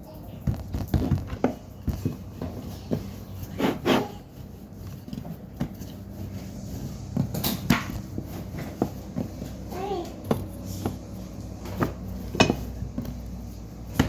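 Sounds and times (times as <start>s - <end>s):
objects knocking and tapping: 0.4s - 14.0s.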